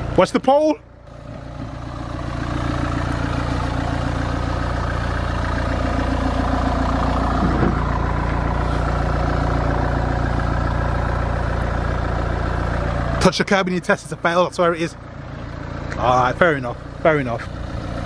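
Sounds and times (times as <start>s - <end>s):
small car engine running: 0.0s - 18.0s.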